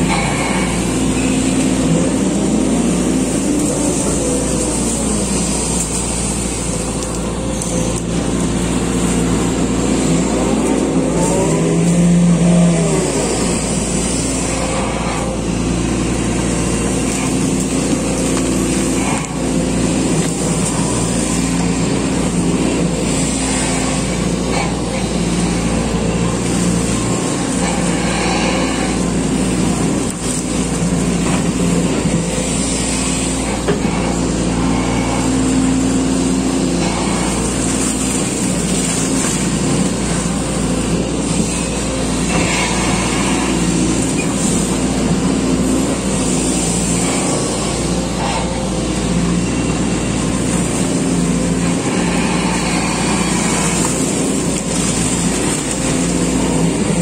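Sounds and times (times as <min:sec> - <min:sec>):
bucket digging mud: 0:00.0 - 0:57.0
excavator diesel engine running: 0:00.0 - 0:57.0.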